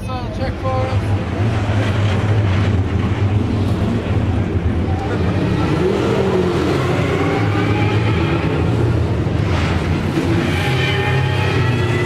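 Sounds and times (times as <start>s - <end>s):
race car engine at low revs: 0.8s - 12.0s.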